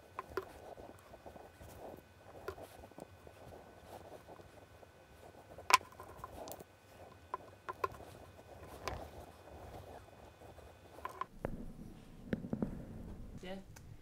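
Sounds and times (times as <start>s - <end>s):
wooden parts rubbing: 0.0s - 11.4s.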